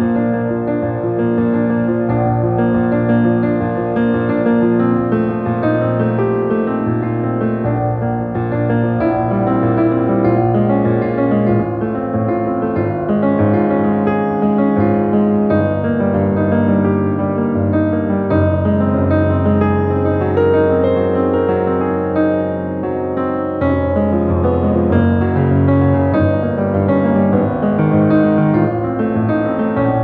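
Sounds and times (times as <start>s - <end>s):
piano background music: 0.0s - 30.0s.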